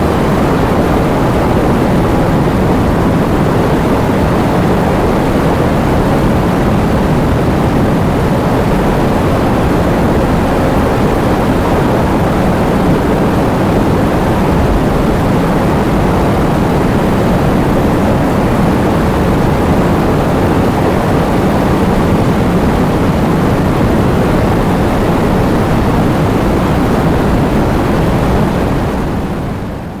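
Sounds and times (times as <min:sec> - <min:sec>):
heavy rain in wind: 0:00.0 - 0:30.0.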